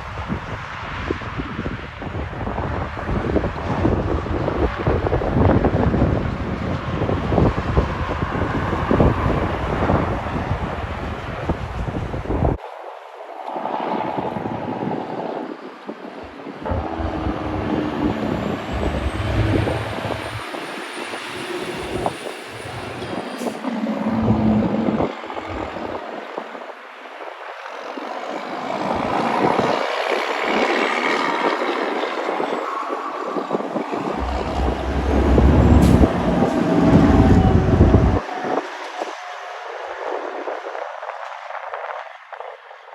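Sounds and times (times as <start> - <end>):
trucks passing: 0.0 - 40.4.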